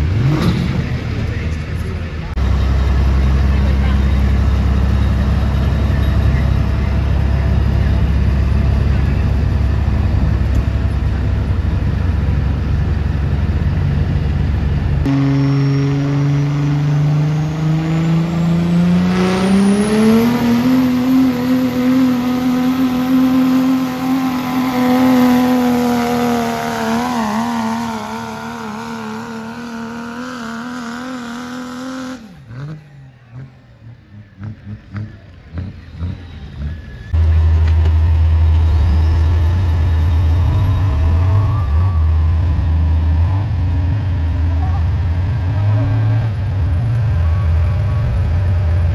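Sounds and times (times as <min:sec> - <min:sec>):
loud deep rumble: 0:00.0 - 0:29.4, 0:36.8 - 0:48.9
diesel truck engine at full throttle: 0:00.0 - 0:48.9.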